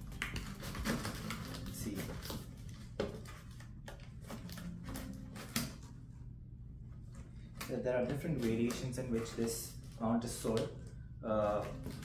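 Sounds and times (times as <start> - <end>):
cardboard rustling and scraping: 0.0 - 6.1, 7.0 - 10.6.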